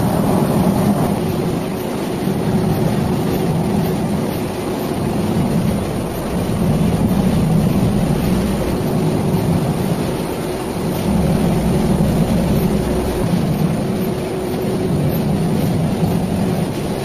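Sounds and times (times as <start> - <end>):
faint constant hum: 0.0 - 17.0
machine drone and rumble: 0.0 - 17.0.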